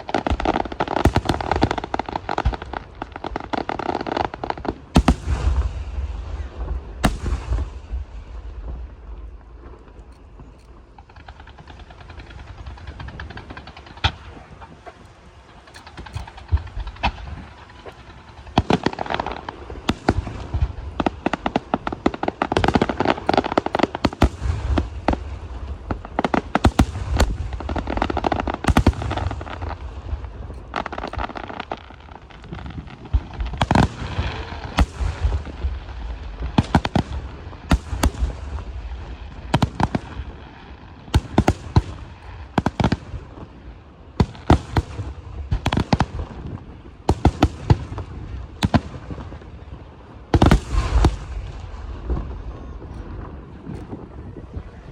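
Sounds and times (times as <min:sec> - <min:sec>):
fireworks bangs: 0:00.0 - 0:54.9
fireworks rumble and crackle: 0:00.0 - 0:54.9.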